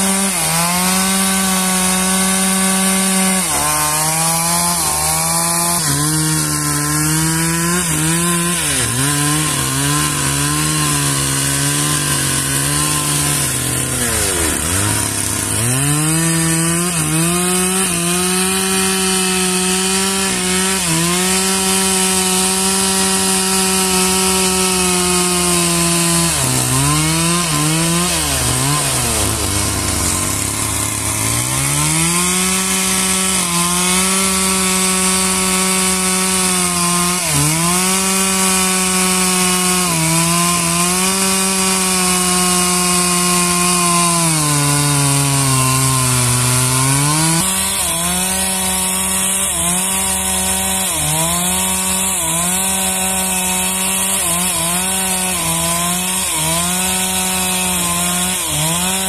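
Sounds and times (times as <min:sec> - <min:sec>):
sawmill saw cutting wood: 0:00.0 - 0:59.0.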